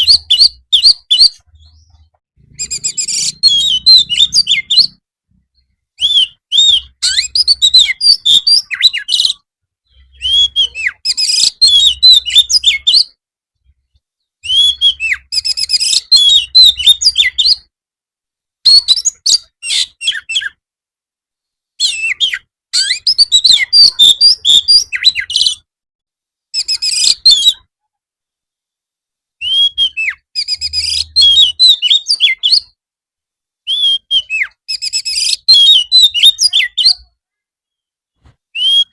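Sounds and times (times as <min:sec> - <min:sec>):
magpie-robin song: 0:00.0 - 0:17.7, 0:18.6 - 0:20.6, 0:21.8 - 0:25.7, 0:26.5 - 0:27.7, 0:29.4 - 0:32.8, 0:33.6 - 0:38.9.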